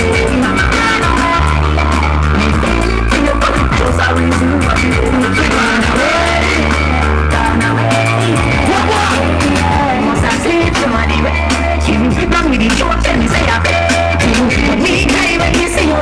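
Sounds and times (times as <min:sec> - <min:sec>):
loud song with deep bass: 0:00.0 - 0:16.0.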